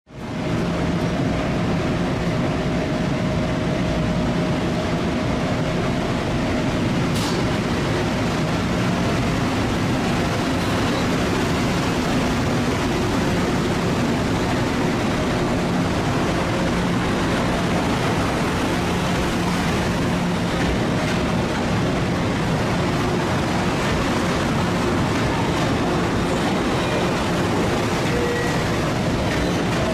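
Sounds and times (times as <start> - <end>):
electric train running noise: 0.2 - 29.9
steady hums: 0.2 - 29.9.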